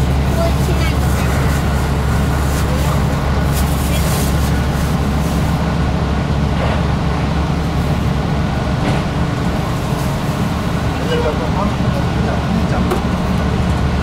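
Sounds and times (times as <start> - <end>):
diesel engine drone: 0.0 - 14.0
wheels rumbling on rail: 0.0 - 14.0.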